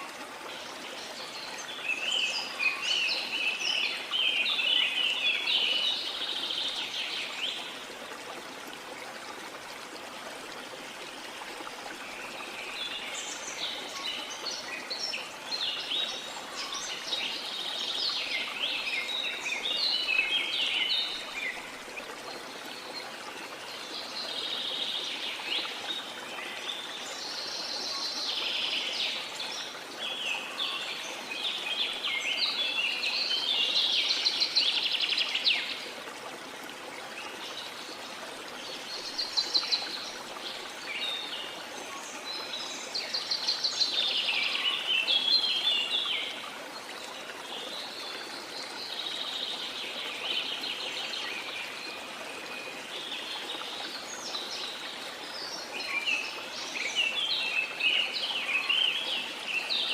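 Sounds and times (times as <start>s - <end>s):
river flowing: 0.0s - 59.9s.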